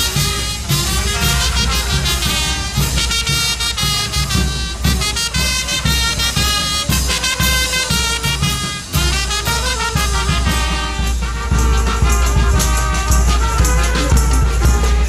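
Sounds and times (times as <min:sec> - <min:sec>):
lively music with drum beat: 0:00.0 - 0:15.0.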